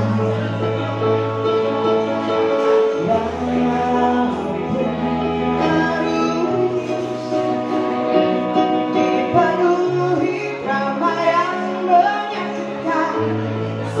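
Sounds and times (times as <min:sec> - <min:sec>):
live band playing: 0:00.0 - 0:14.0.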